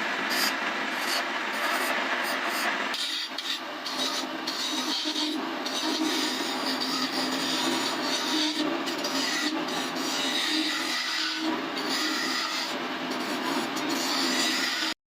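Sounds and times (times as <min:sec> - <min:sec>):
tool rubbing spinning wood: 0:00.0 - 0:15.0
wood lathe running: 0:00.0 - 0:15.0.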